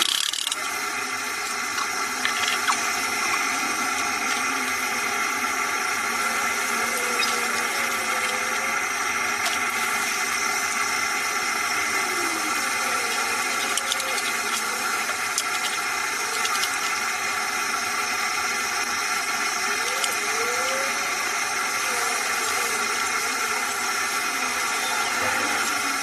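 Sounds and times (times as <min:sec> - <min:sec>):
machine running with hiss and whine: 0:00.0 - 0:26.0.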